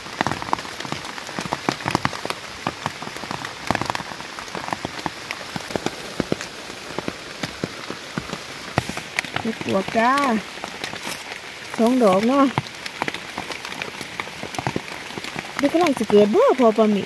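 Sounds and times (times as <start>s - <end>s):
raindrop taps: 0.0s - 17.0s
steady rain: 0.0s - 17.0s.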